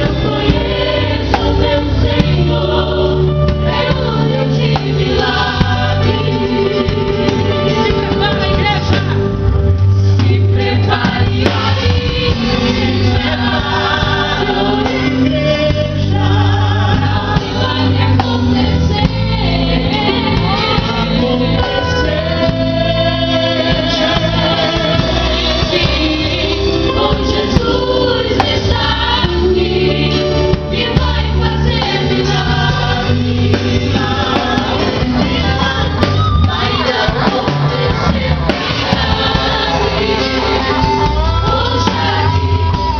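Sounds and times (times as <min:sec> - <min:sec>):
choir singing: 0:00.0 - 0:42.9
instrumental backing with bass: 0:00.0 - 0:42.9.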